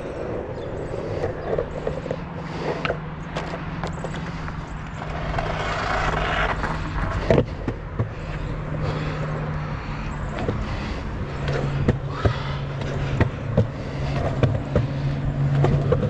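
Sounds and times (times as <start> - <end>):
skateboard wheels rumbling on concrete: 0.0 - 16.0
wheels clacking over joints: 0.6 - 16.0.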